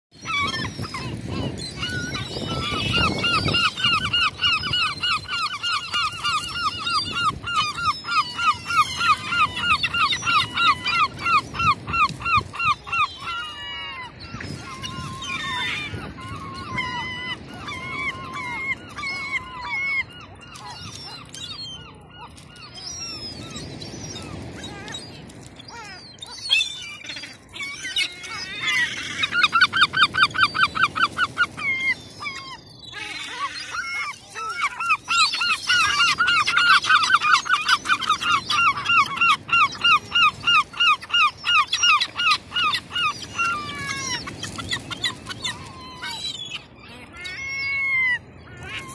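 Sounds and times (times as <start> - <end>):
gulls calling: 0.1 - 48.9.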